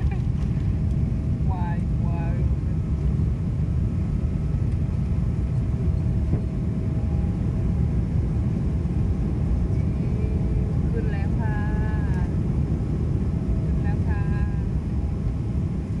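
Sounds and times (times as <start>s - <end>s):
airplane engine and airflow rumble: 0.0s - 16.0s.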